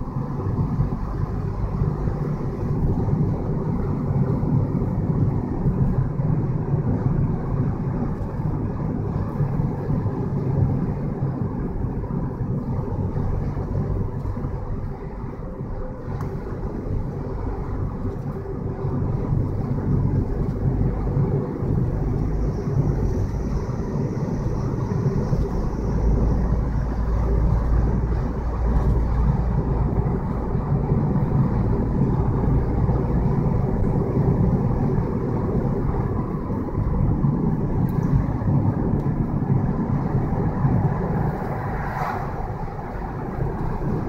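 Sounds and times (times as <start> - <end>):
tyre and engine rumble: 0.0 - 44.0.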